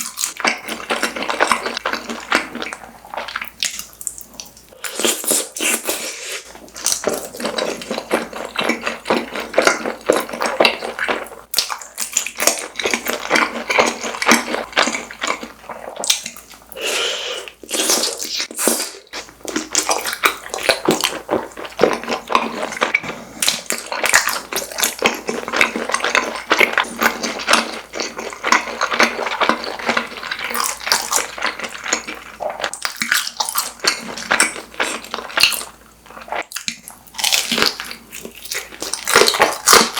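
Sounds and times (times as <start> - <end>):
chewing crunchy snack food: 0.0 - 16.8, 17.5 - 39.9.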